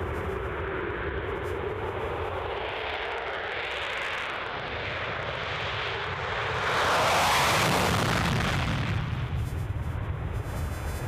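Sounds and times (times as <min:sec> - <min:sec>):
jet engines at full afterburner: 0:00.0 - 0:11.0.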